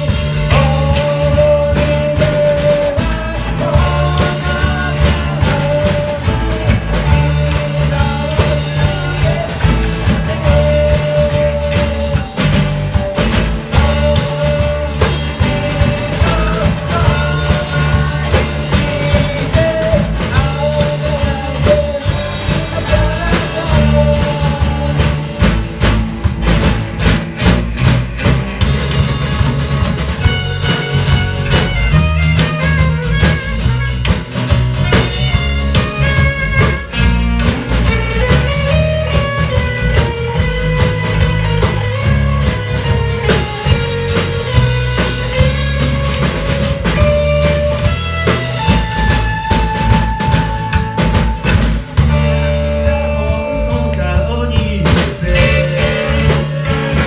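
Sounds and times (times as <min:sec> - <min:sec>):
bass: 0:00.0 - 0:57.0
drum kit: 0:00.0 - 0:57.0
electric guitar: 0:00.0 - 0:57.0.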